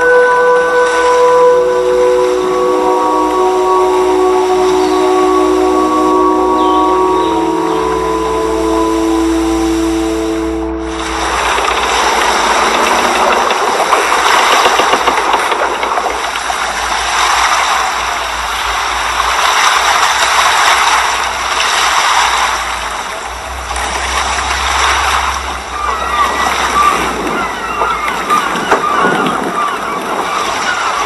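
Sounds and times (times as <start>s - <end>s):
rushing water: 0.0s - 31.0s
motorboat engine running: 0.7s - 30.0s
wind noise: 0.8s - 31.0s.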